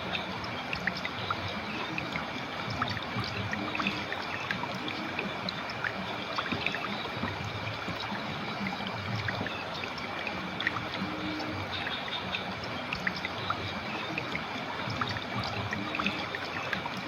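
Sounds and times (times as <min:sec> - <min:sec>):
river water flowing over stones: 0:00.0 - 0:17.0.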